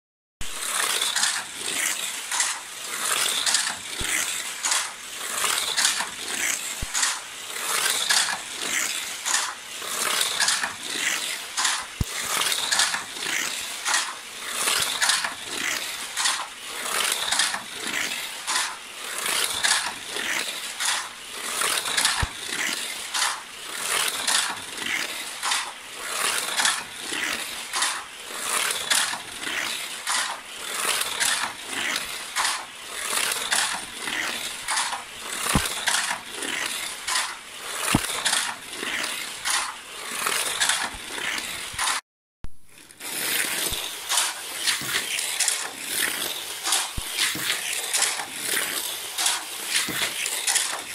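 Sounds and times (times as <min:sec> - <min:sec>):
small electric motor whirring: 0:00.4 - 0:42.0, 0:42.7 - 0:50.9
toy car clattering on track: 0:00.4 - 0:42.0, 0:42.7 - 0:50.9.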